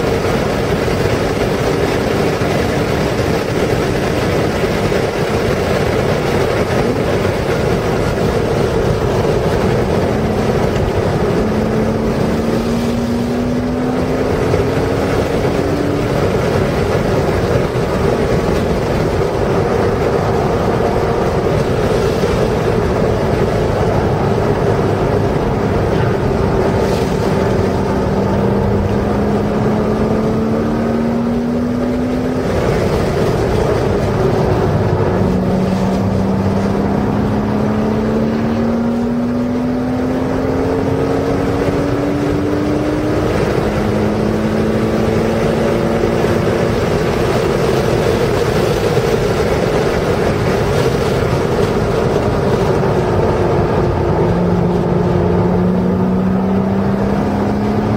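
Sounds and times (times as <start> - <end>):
car engine under throttle: 0.0 - 57.9
wind and tyre noise: 0.0 - 57.9.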